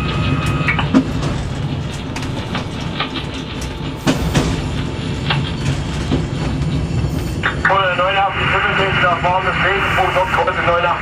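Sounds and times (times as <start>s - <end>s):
diesel railcar engine rumble: 0.0s - 11.0s.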